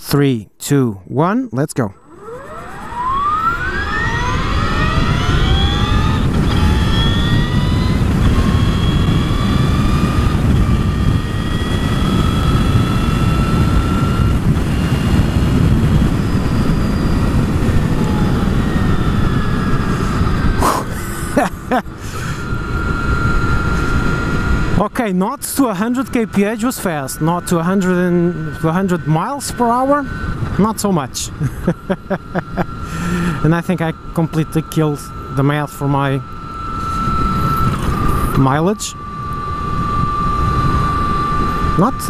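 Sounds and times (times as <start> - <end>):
electric motor whine: 2.0 - 42.0
wind rush on microphone: 2.8 - 42.0.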